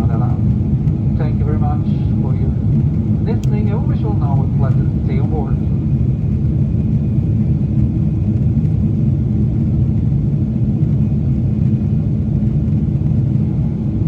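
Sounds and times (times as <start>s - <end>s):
airplane cabin drone: 0.0s - 14.0s.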